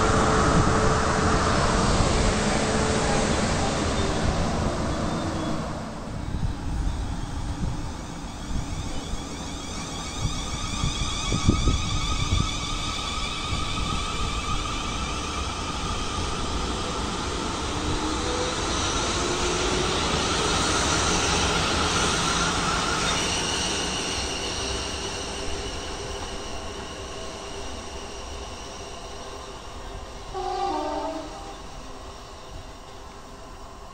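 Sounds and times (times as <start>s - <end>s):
train passing rumble: 0.0s - 33.9s.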